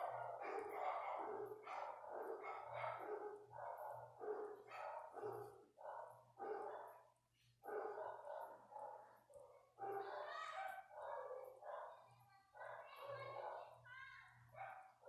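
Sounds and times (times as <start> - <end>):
dog barking: 0.0 - 13.8, 14.5 - 15.0.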